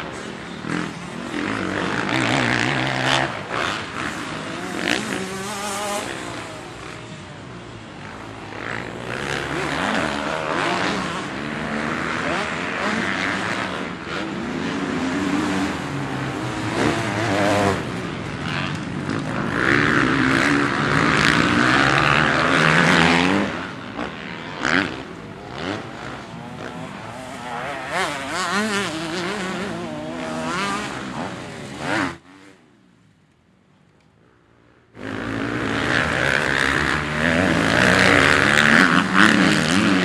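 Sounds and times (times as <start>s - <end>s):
dirt bike engine revving: 0.0s - 32.7s, 35.0s - 40.0s.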